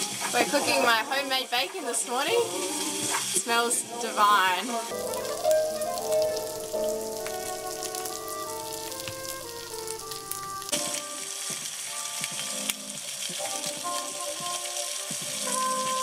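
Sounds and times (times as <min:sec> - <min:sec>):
bacon sizzling in a frying pan: 0:00.0 - 0:16.0
soft background music: 0:00.0 - 0:16.0.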